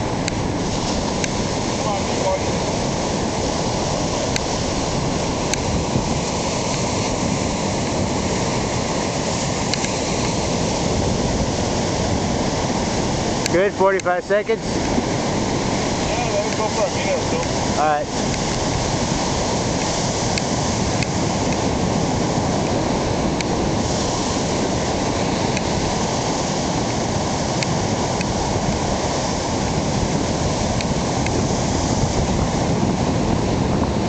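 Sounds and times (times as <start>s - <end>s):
ocean surf breaking: 0.0s - 34.0s
wind buffeting microphone: 0.0s - 34.0s.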